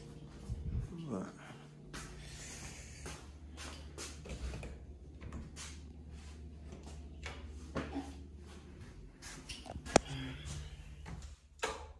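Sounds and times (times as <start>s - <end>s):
low hum: 0.0s - 11.5s.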